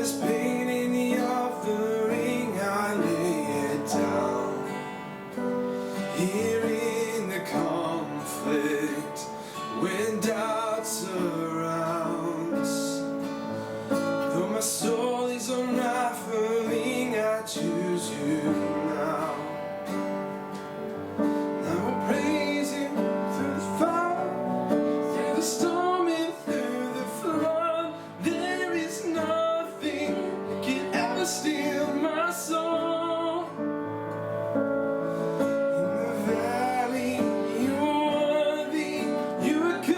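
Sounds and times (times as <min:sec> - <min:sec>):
person singing worship song: 0:00.0 - 0:13.1, 0:13.8 - 0:20.1, 0:21.4 - 0:33.7, 0:35.2 - 0:39.9
acoustic guitar strumming: 0:00.0 - 0:39.9.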